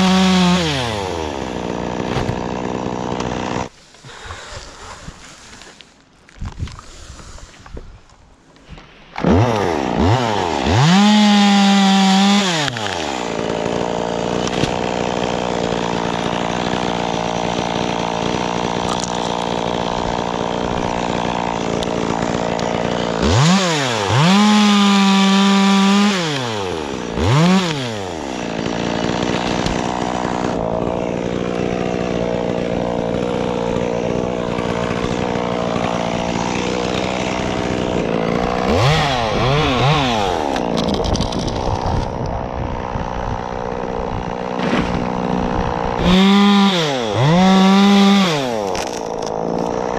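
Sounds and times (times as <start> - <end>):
chainsaw revving: 0.0 - 3.7, 9.2 - 49.9.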